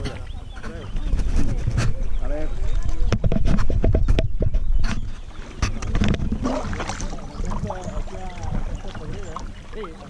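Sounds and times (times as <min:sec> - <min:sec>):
paddle splashes and knocks: 0:00.0 - 0:10.0.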